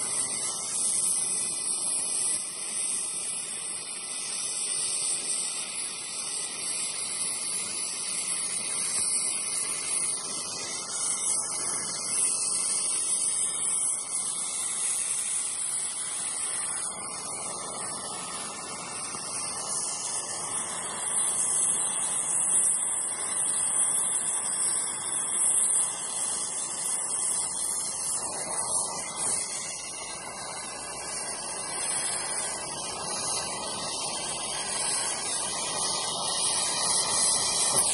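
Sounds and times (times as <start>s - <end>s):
welding torch flame hissing: 0.0s - 37.9s.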